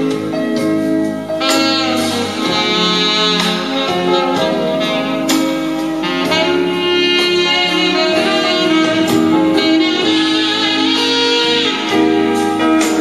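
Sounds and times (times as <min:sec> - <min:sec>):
jazz with saxophone lead: 0:00.0 - 0:13.0.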